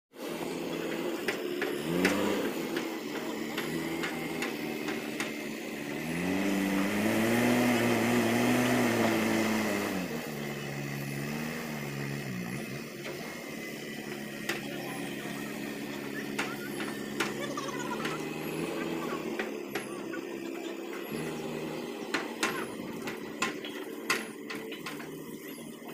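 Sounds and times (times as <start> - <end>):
diesel engine revving: 0.1 - 25.9.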